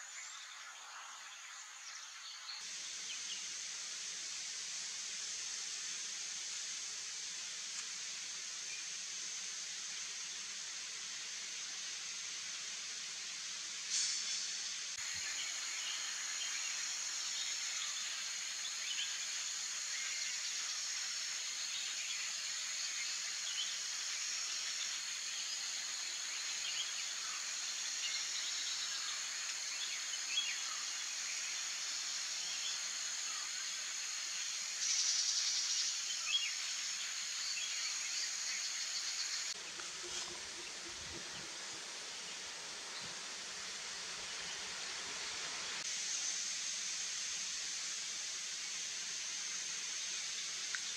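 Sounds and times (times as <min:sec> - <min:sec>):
high-pitched insect chorus: 0:00.0 - 0:50.9
soft even hiss: 0:00.0 - 0:50.9.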